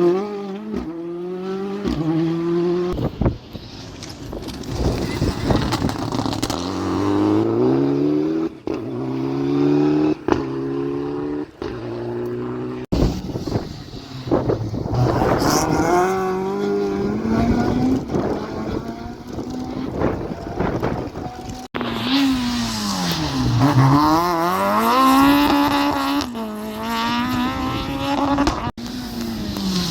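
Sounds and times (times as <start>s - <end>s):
rally car engine accelerating: 4.9s - 29.9s.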